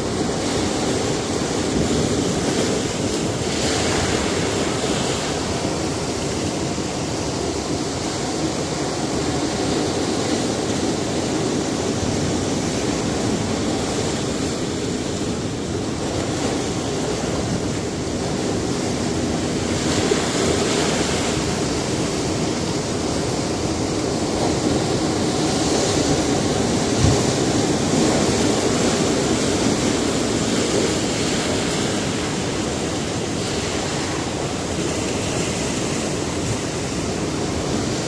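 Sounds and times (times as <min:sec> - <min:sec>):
waves breaking on rocky shore: 0:00.0 - 0:38.0.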